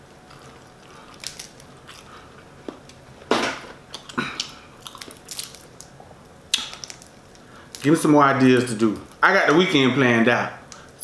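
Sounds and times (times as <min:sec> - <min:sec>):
shells cracking and crunching: 0:00.3 - 0:09.2.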